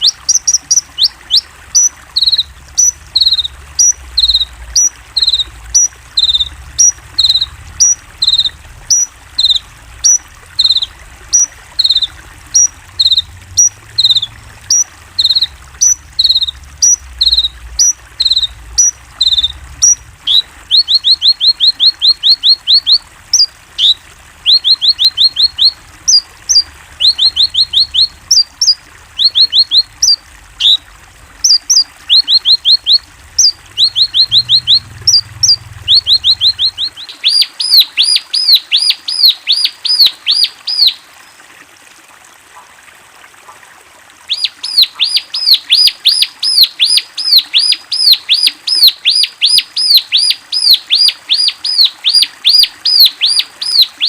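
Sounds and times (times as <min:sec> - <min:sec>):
songbird chirping: 0:00.0 - 0:41.0, 0:44.3 - 0:54.0.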